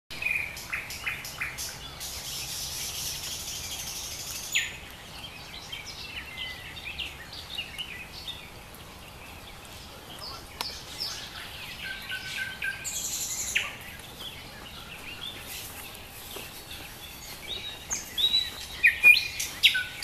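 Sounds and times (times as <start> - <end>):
nightingale singing: 0.1 - 20.0.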